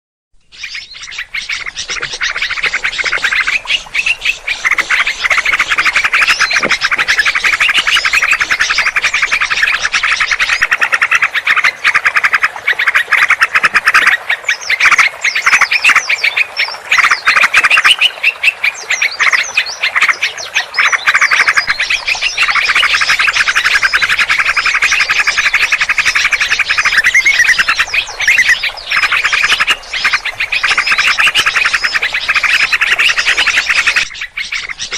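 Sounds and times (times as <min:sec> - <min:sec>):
small birds scolding and chattering: 0:00.4 - 0:34.9.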